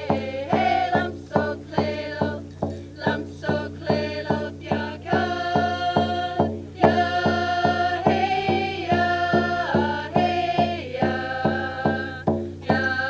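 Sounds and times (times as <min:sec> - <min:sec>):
frame drums beating: 0:00.0 - 0:13.0
group singing: 0:00.0 - 0:13.0.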